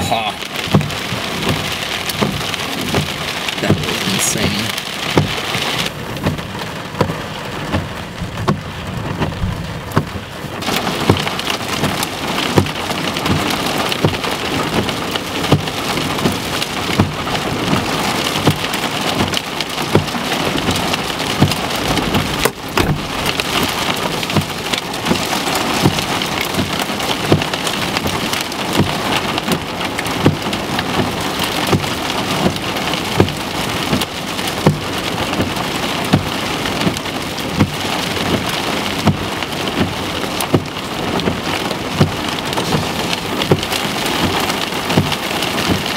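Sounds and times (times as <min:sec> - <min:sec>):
heavy rain on vehicle roof: 0:00.0 - 0:45.9.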